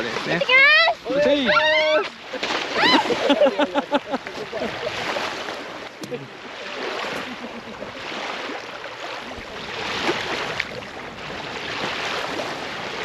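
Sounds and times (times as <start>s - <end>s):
small waves lapping on pebbles: 0.0s - 13.0s
water swishing around person: 0.0s - 13.0s.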